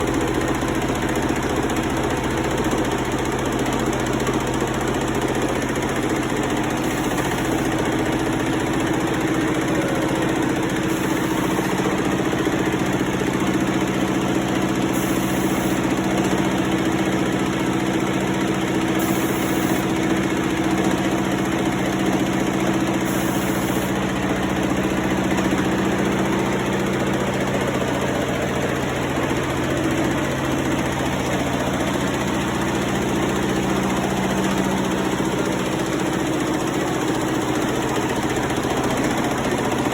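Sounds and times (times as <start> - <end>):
industrial machine humming: 0.0 - 39.9.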